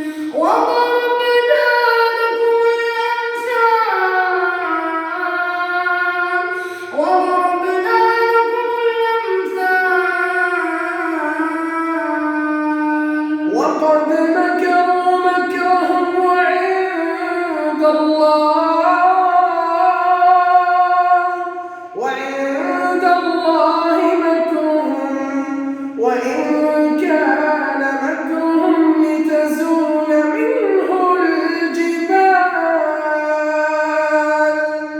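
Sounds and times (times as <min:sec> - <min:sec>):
man reciting melodically: 0:00.0 - 0:34.9.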